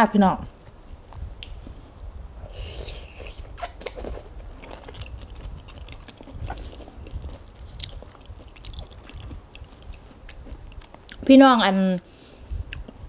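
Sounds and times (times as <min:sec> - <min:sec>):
person chewing: 0:01.1 - 0:11.3, 0:12.7 - 0:13.0.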